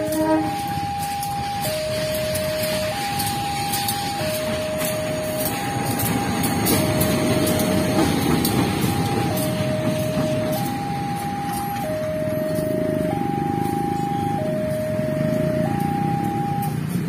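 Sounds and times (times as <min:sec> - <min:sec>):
diesel locomotive rumble: 0:00.0 - 0:17.0
level crossing two-tone alarm: 0:00.0 - 0:17.0.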